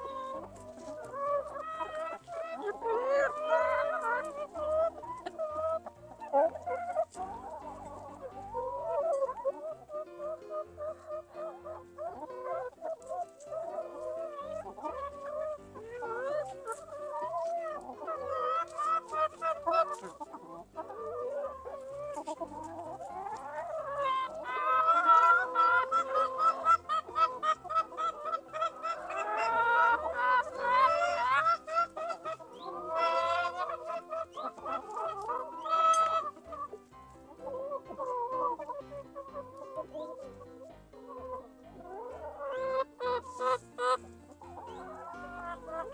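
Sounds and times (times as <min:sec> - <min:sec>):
chickens clucking and squawking: 0:00.0 - 0:45.9.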